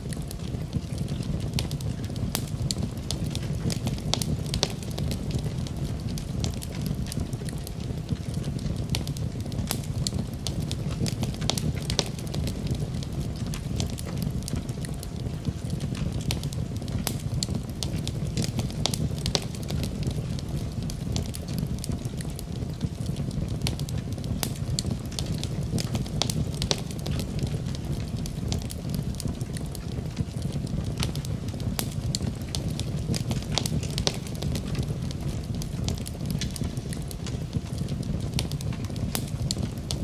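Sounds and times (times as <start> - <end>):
burning wood crackling: 0.0 - 40.0
wood fire burning: 0.0 - 40.0.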